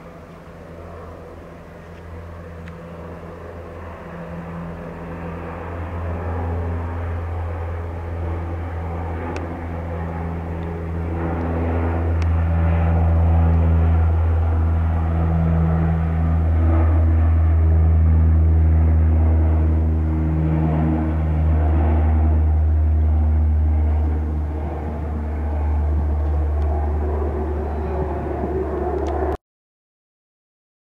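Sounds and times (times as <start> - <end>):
turboprop engines droning: 0.0 - 29.4.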